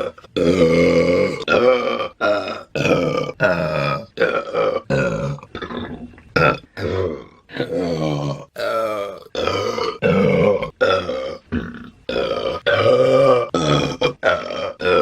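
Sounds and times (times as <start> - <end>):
woman burping: 0.0 - 15.0.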